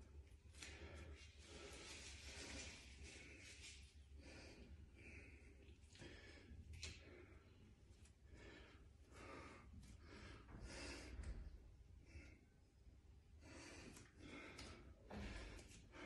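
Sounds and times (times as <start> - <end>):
man breathing hard: 0.6 - 16.0.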